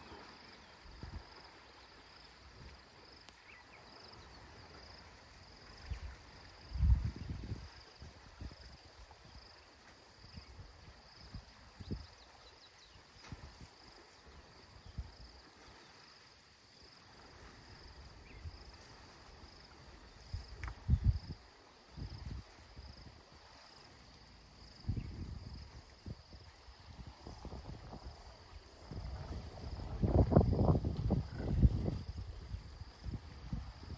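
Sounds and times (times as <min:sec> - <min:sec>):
insects chirping: 0:00.0 - 0:33.9.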